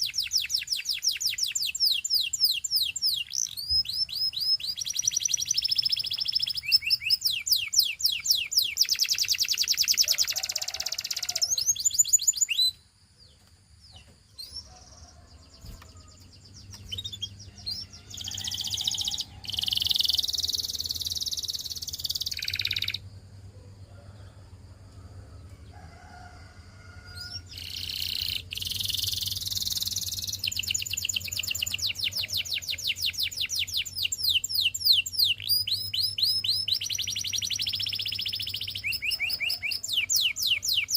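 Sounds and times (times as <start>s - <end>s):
canary singing trills: 0.0s - 23.1s, 27.1s - 40.9s.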